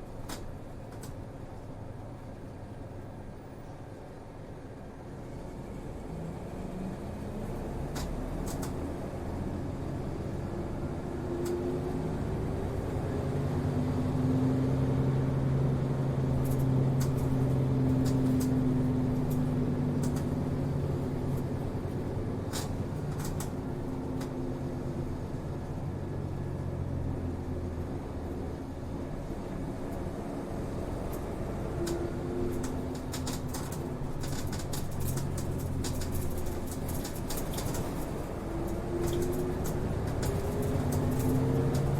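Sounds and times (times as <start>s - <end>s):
bus engine humming: 0.0s - 41.9s
road noise: 0.0s - 41.9s.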